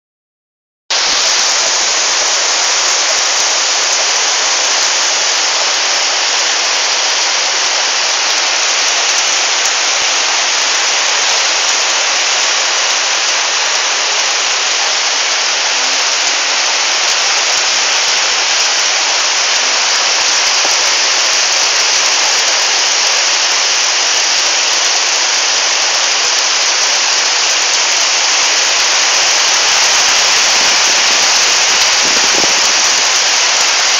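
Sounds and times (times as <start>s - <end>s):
heavy rain: 0.9s - 33.9s
strong wind: 0.9s - 33.9s.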